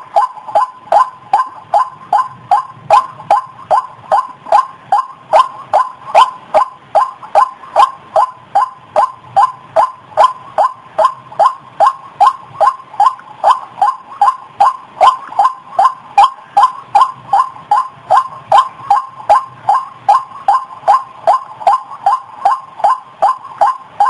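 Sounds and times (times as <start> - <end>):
bird calling rapid falling notes: 0.0 - 24.0.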